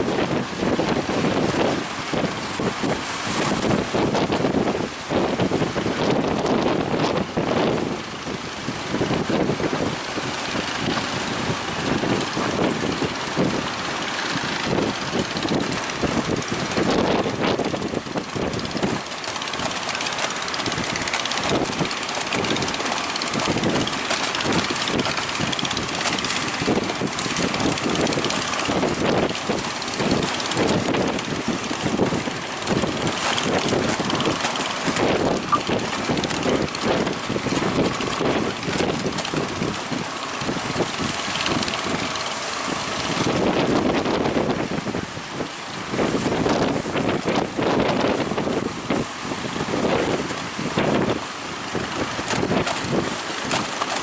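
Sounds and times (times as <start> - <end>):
wind buffeting microphone: 0.0 - 53.8
engine running: 0.0 - 54.0.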